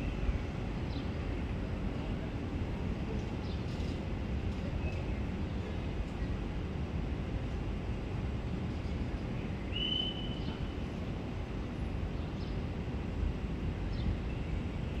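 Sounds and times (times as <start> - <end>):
low rumble of station noise: 0.0 - 15.0.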